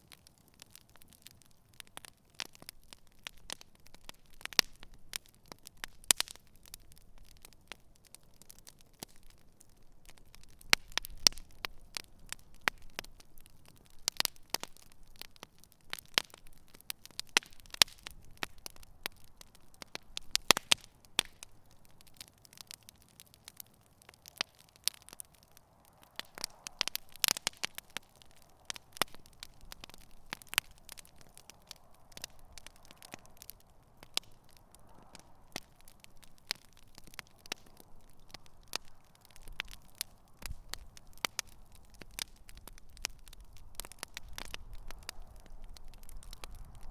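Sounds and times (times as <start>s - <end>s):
campfire crackling and popping: 0.0s - 46.9s
low fire hiss: 0.0s - 46.9s.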